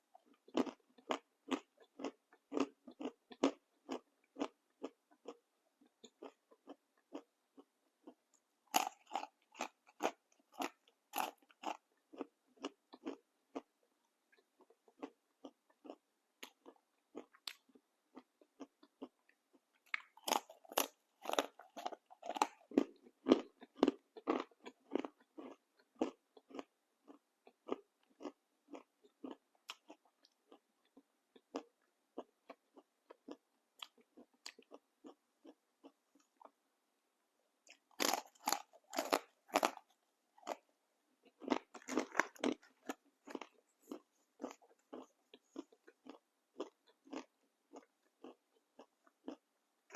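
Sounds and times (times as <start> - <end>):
crunchy snack being chewed: 0.1 - 13.7, 14.3 - 36.6, 37.7 - 49.9.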